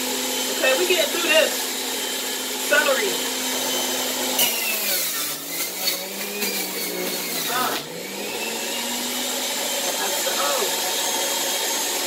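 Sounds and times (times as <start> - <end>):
electric juicer motor running: 0.0 - 12.0.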